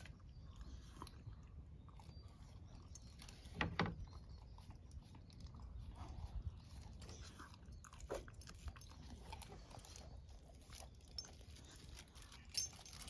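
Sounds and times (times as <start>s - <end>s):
dog chewing and licking: 0.0s - 13.0s.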